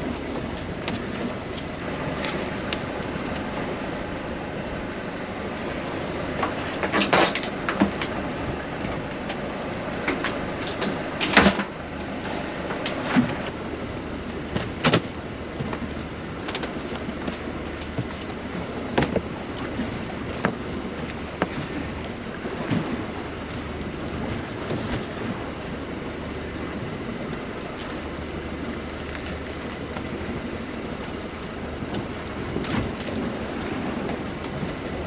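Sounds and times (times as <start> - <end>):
water sloshing around boat: 0.0 - 35.0
wind buffeting microphone: 0.0 - 35.0.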